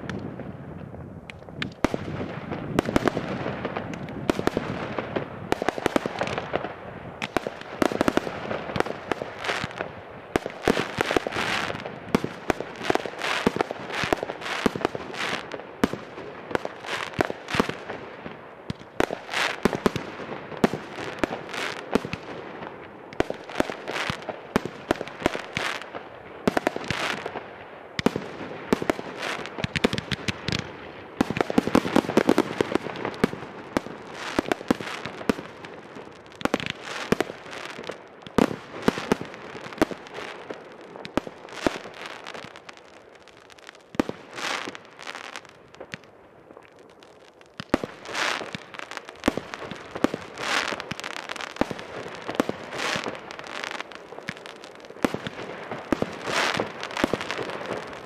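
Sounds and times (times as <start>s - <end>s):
fireworks crackling: 0.0s - 58.0s
fireworks launch pops and bursts: 0.0s - 58.0s.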